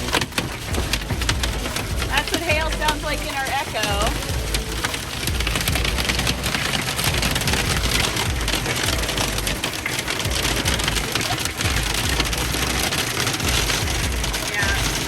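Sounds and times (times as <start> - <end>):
hail drumming on a roof: 0.0 - 15.0
low rumble: 0.0 - 15.0.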